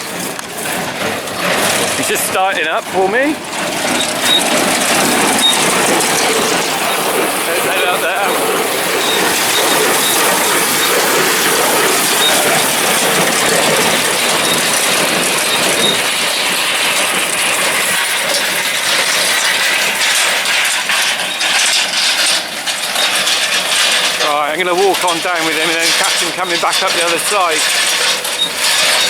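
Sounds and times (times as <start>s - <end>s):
hay baler clattering: 0.0s - 29.0s.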